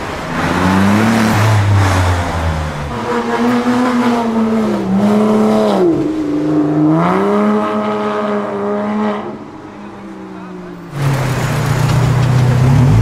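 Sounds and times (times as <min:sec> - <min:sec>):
car engine accelerating: 0:00.0 - 0:09.6, 0:10.9 - 0:13.0.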